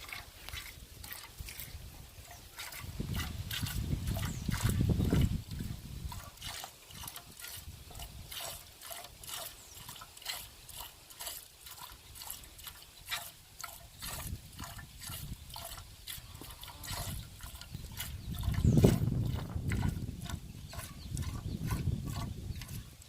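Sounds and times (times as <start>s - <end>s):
milk squirting into a pail: 0.0s - 23.0s.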